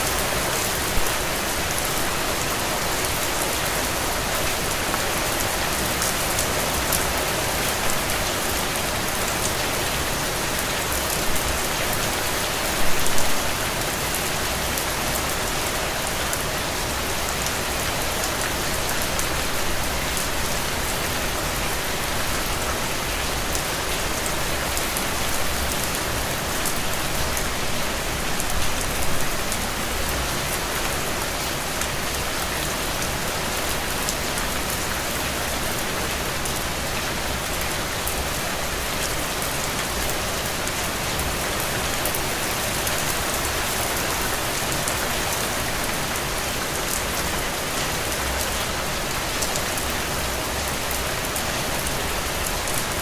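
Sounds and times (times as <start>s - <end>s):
heavy rain on ground: 0.0s - 53.0s.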